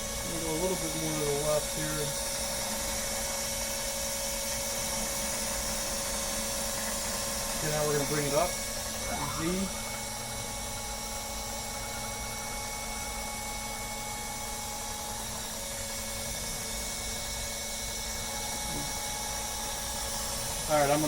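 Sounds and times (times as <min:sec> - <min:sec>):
machine hum and whine: 0:00.0 - 0:21.0.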